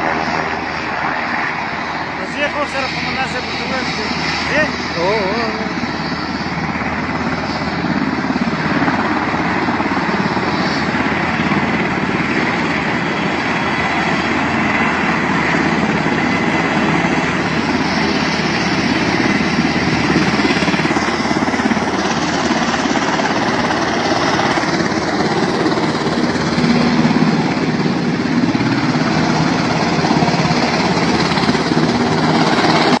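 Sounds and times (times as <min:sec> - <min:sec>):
helicopter rotors and turbines: 0:00.0 - 0:33.0.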